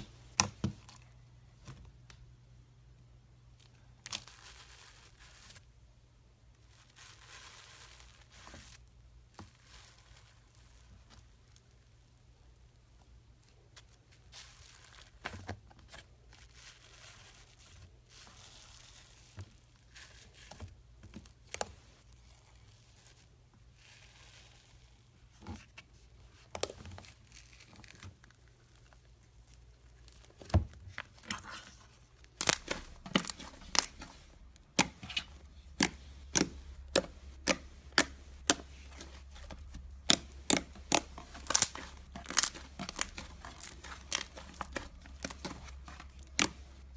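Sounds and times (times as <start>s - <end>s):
slime crackling and crinkling: 3.5s - 5.8s, 6.4s - 46.9s.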